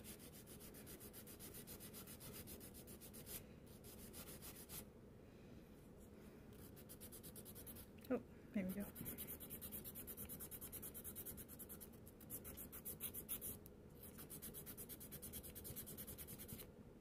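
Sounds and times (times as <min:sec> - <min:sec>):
nail file scratching a fingernail: 0:00.0 - 0:04.8, 0:06.6 - 0:07.9, 0:08.7 - 0:16.7.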